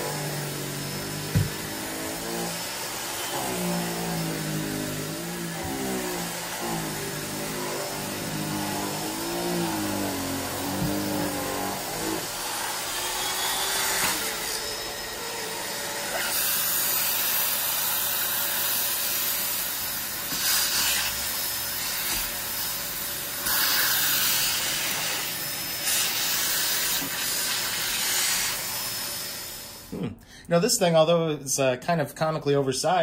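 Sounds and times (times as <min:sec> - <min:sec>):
vacuum cleaner suction rushing: 0:00.0 - 0:29.9.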